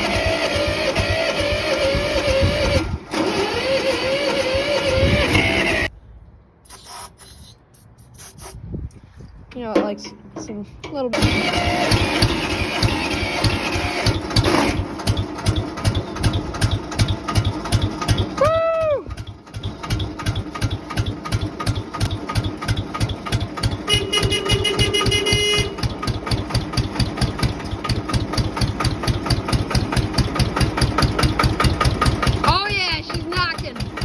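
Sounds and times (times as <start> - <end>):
tractor diesel engine idling: 0.0 - 5.9, 9.6 - 18.5, 19.1 - 34.0.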